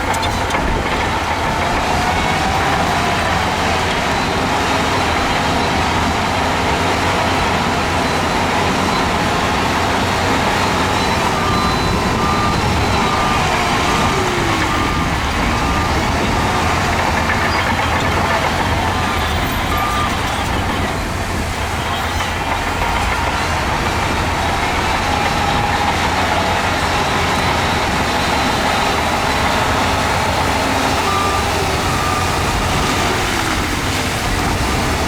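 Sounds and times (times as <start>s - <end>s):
diesel earthmoving machinery: 0.0s - 35.0s
reversing alarm beeping: 0.0s - 35.0s.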